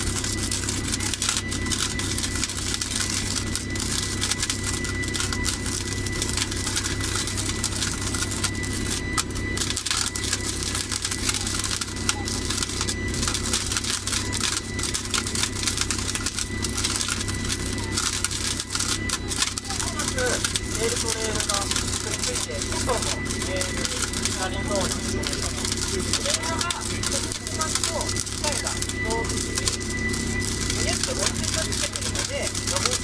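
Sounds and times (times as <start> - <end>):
crackle of welding sparks: 0.0 - 33.0
low machine hum: 0.0 - 33.0.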